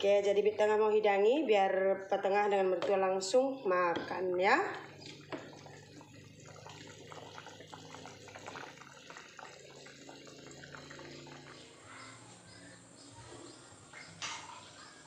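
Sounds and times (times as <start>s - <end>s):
curry bubbling in a pot: 2.1s - 15.0s.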